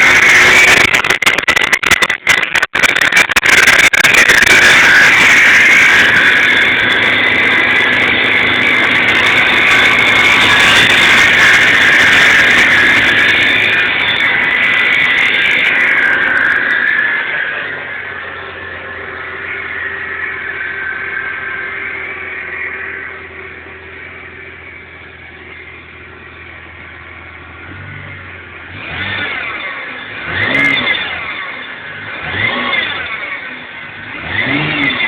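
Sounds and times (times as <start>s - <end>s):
car engine noise: 0.0s - 35.0s.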